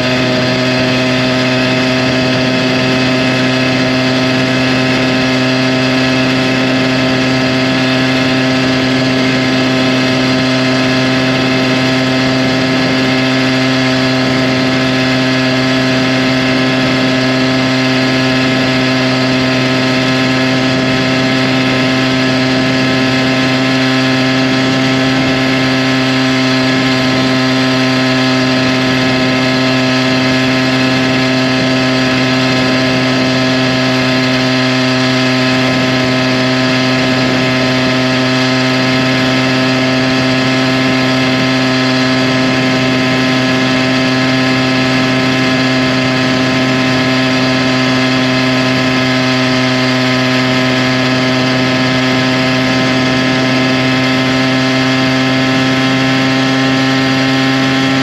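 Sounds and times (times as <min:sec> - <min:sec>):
two-stroke engine running hard: 0:00.0 - 0:58.0.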